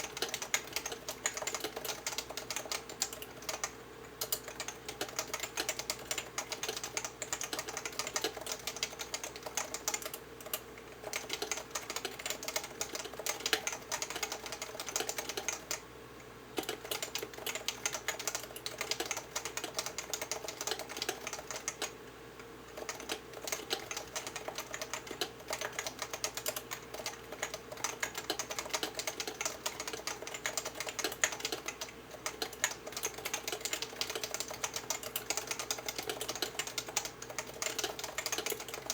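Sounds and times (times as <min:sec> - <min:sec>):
keyboard typing: 0:00.0 - 0:15.8, 0:16.6 - 0:21.9, 0:22.7 - 0:38.9.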